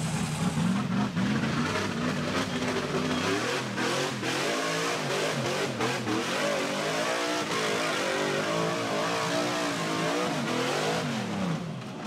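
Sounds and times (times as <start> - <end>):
engine revving hard: 0.0 - 11.6.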